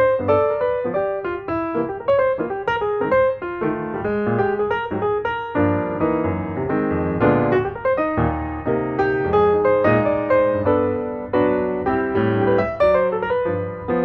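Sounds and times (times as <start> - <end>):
light keyboard tune: 0.0 - 14.0.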